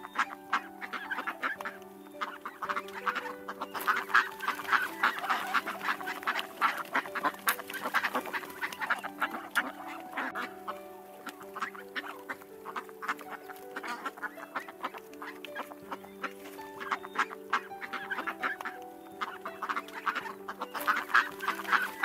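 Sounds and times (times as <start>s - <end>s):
background music: 0.0s - 22.0s
poultry calling: 0.0s - 22.0s.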